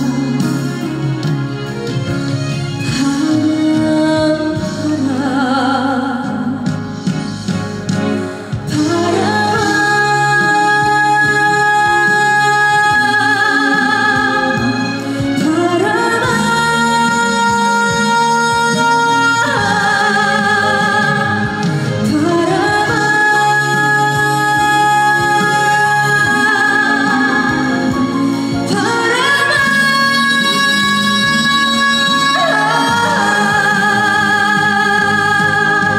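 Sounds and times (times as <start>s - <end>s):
backing track music: 0.0s - 35.9s
woman singing with vibrato: 2.8s - 7.0s, 8.6s - 35.9s.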